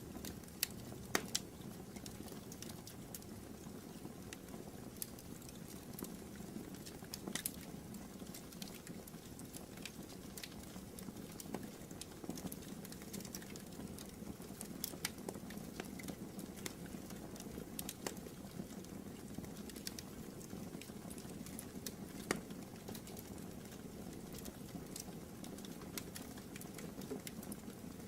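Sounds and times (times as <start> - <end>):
rustle of flames: 0.0 - 28.0
wood fire crackling: 0.0 - 28.0.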